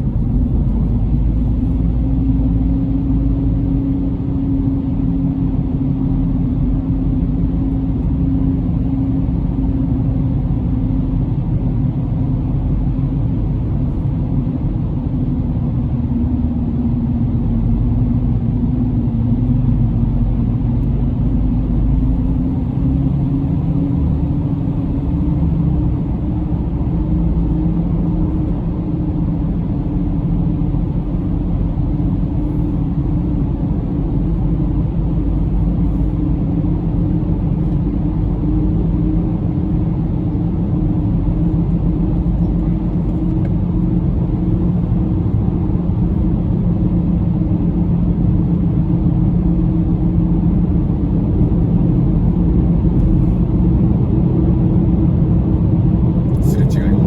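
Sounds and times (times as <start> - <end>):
car interior road and engine noise: 0.0 - 57.0.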